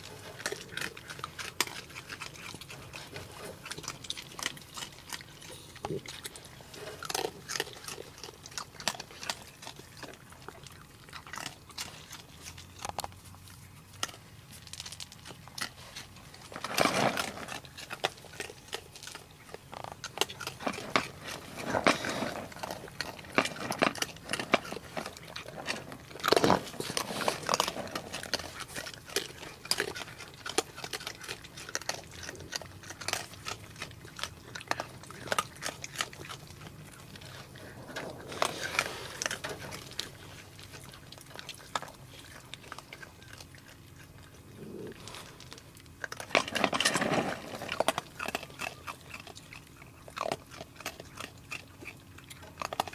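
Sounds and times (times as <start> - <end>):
raccoons chewing food: 0.0 - 52.9
small clicks and crackles: 0.0 - 52.9.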